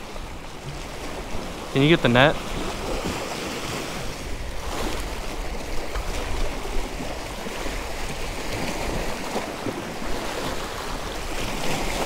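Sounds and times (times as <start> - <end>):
small waves splashing against rocks: 0.0 - 12.0
wind buffeting microphone: 0.0 - 12.0.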